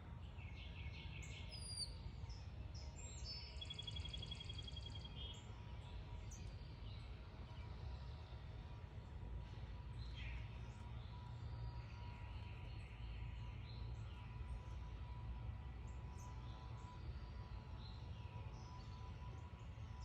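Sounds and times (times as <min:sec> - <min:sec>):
faint hum: 0:00.0 - 0:20.0
songbirds chirping: 0:00.0 - 0:20.0.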